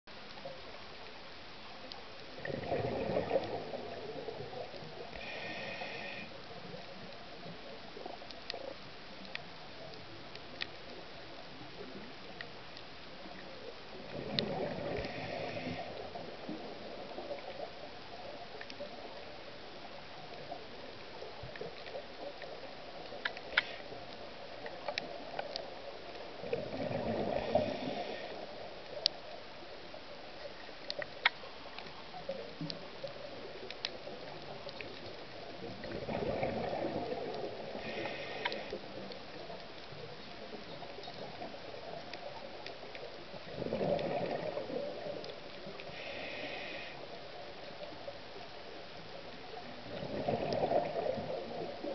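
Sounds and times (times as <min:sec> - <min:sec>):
faint steady hiss: 0:00.1 - 0:51.9.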